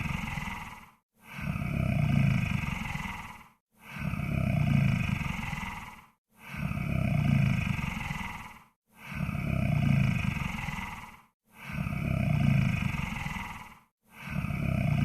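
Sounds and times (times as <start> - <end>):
deep rough snoring: 0.0 - 15.0.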